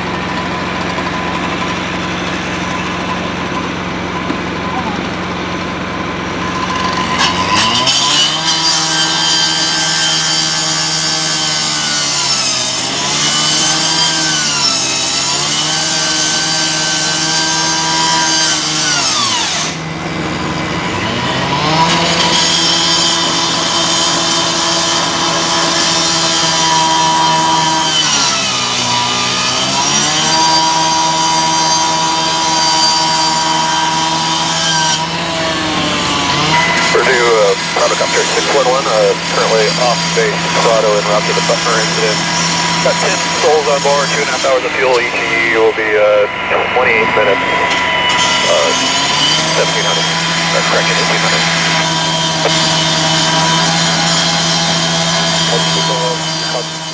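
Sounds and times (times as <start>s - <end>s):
rescue saw engine revving: 0.0s - 56.9s.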